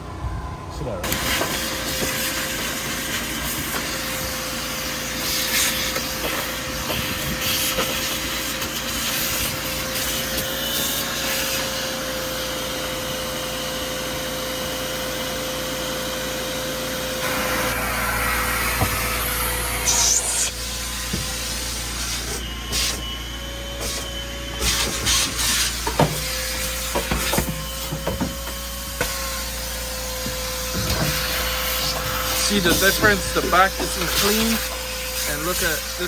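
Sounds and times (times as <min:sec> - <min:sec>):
vacuum cleaner running: 0:00.1 - 0:36.0.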